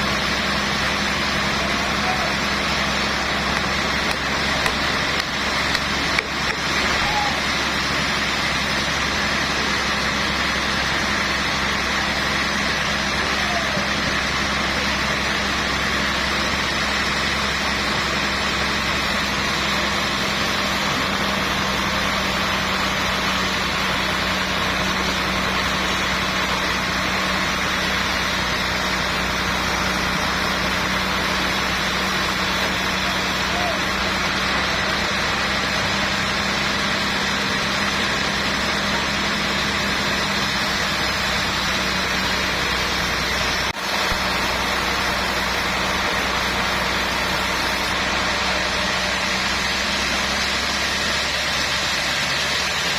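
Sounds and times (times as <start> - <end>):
sawmill machinery droning: 0.0 - 52.9.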